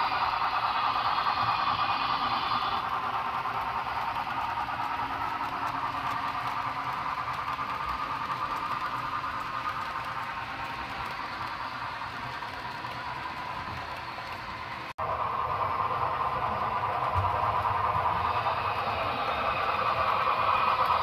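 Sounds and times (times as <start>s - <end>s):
model train running hum: 0.0s - 21.0s.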